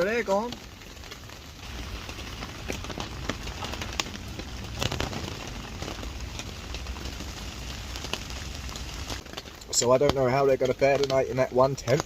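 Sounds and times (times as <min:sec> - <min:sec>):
fire crackling and popping: 0:00.0 - 0:12.0
heavy rain falling: 0:00.0 - 0:12.0.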